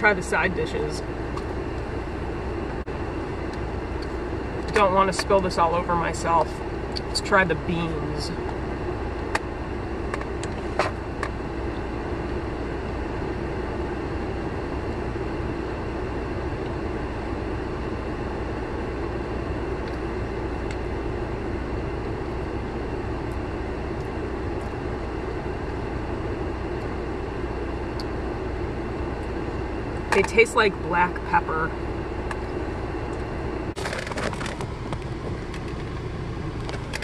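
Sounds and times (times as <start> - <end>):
car engine humming: 0.0 - 37.0.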